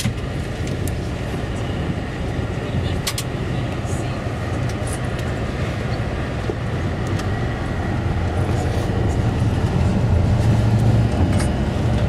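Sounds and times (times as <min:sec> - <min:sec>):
ferry engine rumble: 0:00.0 - 0:12.0.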